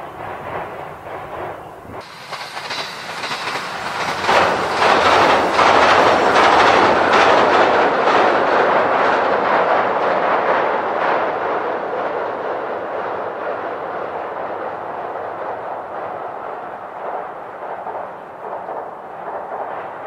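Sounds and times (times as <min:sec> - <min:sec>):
train rumbling over bridge: 0:00.0 - 0:20.0
wheels clattering over rails: 0:00.0 - 0:20.0.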